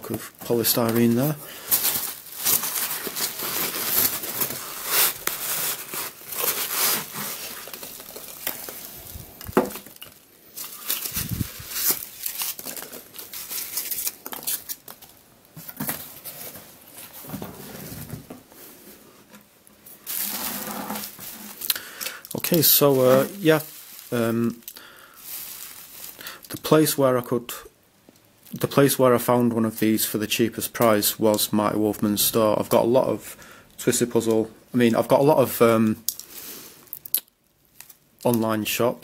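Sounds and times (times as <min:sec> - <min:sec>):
bubble wrap and packing rustling: 0:00.0 - 0:39.0.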